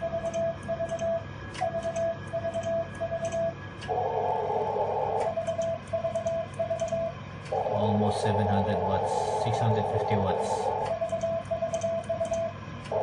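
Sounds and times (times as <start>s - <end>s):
morse code tone dashes: 0.0s - 13.0s.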